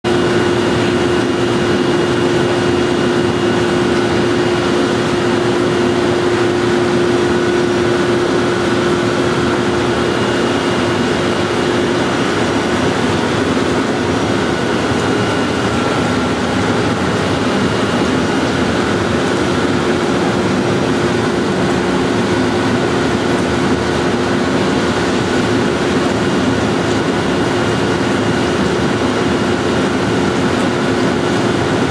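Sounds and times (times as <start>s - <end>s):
churning bubbling water: 0.0s - 31.9s
steady hum: 0.0s - 31.9s.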